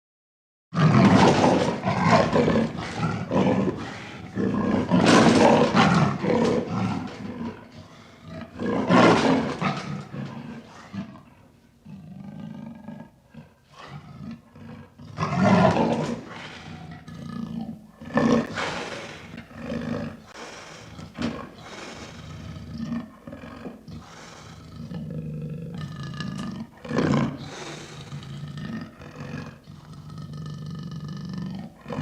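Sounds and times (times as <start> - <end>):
panther roaring and growling: 0.8 - 32.0.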